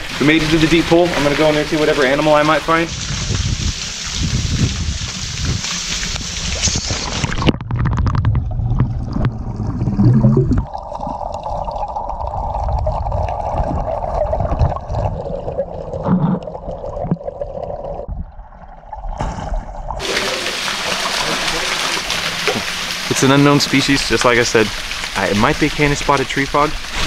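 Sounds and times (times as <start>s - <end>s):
underwater churning and gurgling: 0.0s - 27.0s.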